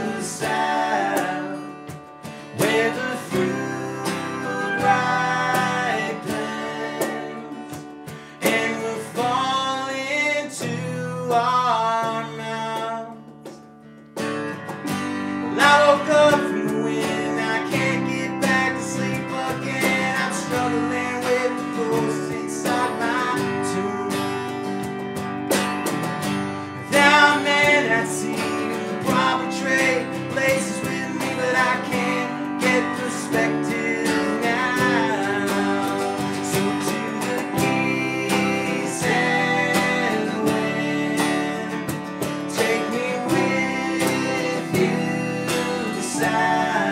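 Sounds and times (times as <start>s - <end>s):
small band playing live: 0.0s - 46.9s
strummed acoustic guitar: 0.0s - 46.9s.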